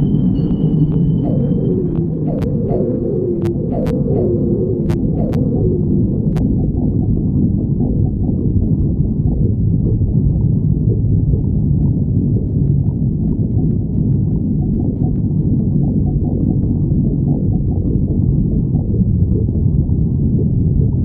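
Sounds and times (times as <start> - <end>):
stomach growling: 0.0 - 21.0.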